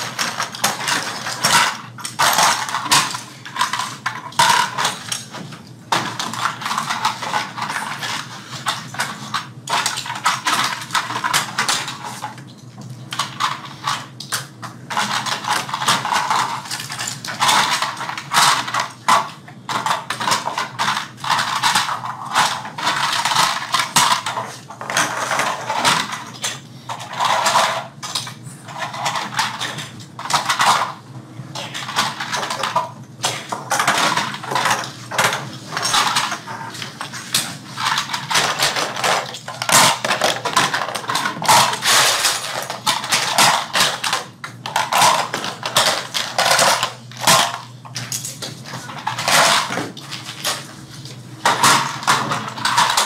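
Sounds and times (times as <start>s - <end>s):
plastic parts clicking and clattering: 0.0s - 53.0s.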